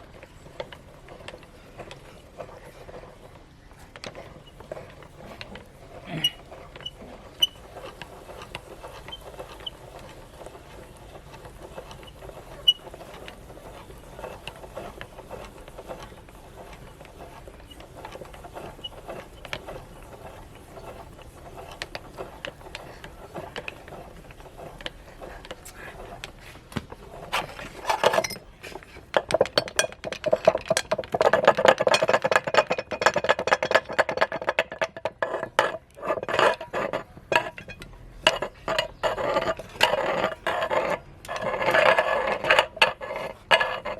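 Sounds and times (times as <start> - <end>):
meat grinder crackling: 0.0 - 43.9.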